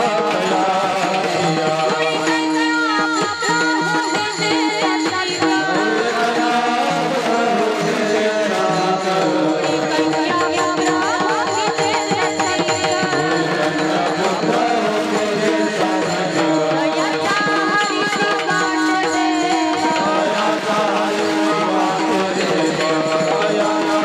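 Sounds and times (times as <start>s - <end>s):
devotional melody: 0.0s - 24.0s
tabla rhythm: 0.0s - 24.0s.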